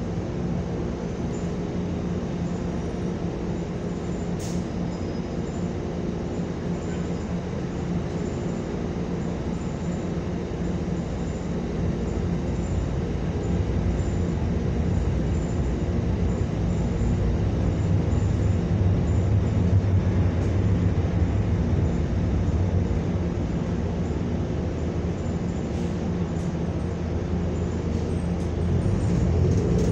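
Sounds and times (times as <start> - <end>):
bus engine hum: 0.0 - 29.9.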